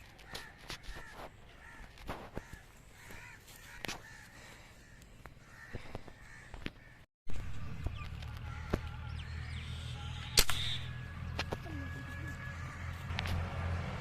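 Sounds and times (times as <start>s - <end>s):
birds calling harshly: 0.1s - 13.1s.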